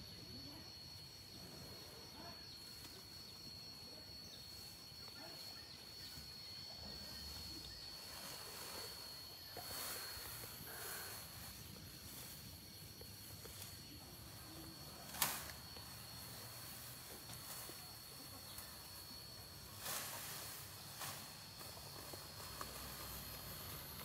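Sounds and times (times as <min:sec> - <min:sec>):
high insect buzz: 0:00.0 - 0:24.0.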